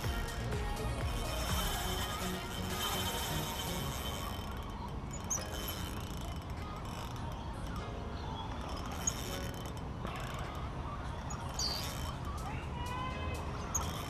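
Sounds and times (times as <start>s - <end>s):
fishing reel ratcheting: 0.0s - 7.8s, 8.6s - 12.8s, 13.7s - 14.0s.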